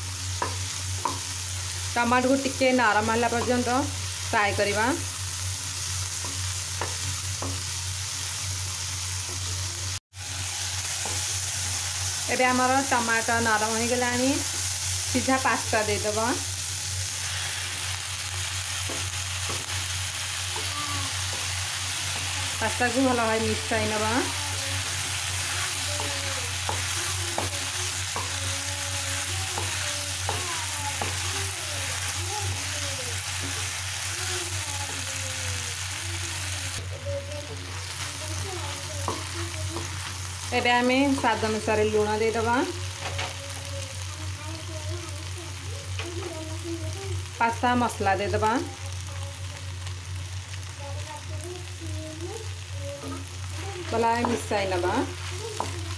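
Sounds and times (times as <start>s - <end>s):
vegetables sizzling in oil: 0.0s - 55.9s.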